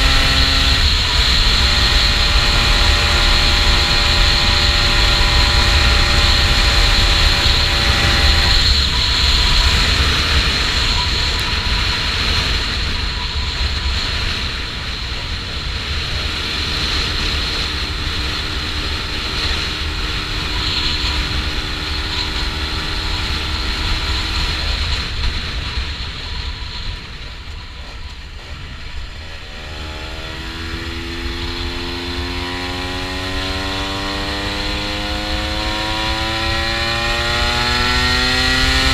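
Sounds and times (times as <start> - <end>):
motorcycle engine: 0.0 - 38.9
wind rumble on microphone: 0.0 - 38.9.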